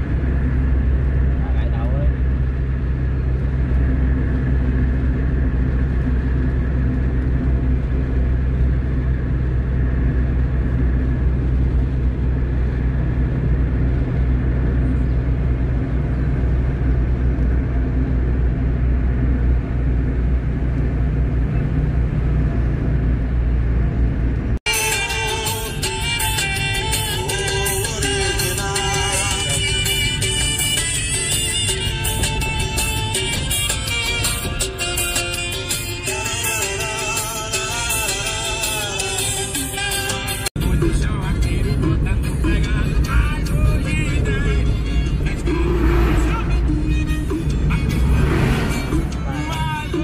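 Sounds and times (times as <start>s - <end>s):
car engine drone: 0.0s - 50.0s
road rumble: 0.0s - 50.0s.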